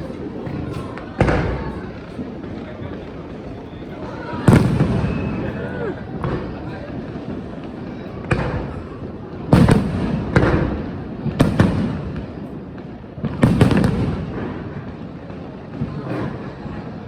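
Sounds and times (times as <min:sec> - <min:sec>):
fireworks bangs with rumbling echo: 0:00.0 - 0:17.0.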